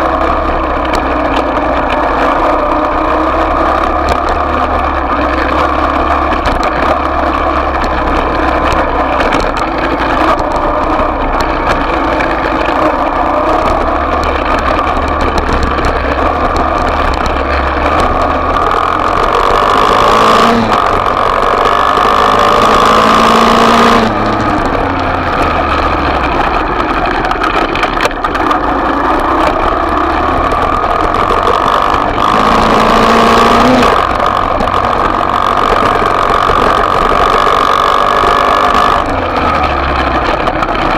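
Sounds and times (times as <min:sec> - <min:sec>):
dirt bike engine accelerating: 0:00.0 - 0:40.9.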